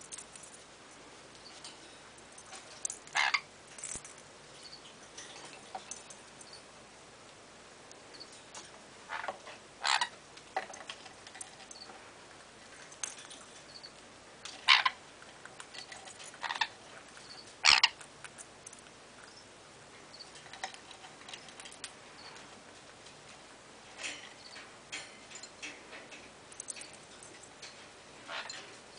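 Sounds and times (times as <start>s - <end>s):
birds' beaks and feet tapping toys: 1.3s - 6.6s, 8.1s - 12.0s, 12.6s - 19.5s, 20.2s - 23.4s, 24.0s - 28.8s.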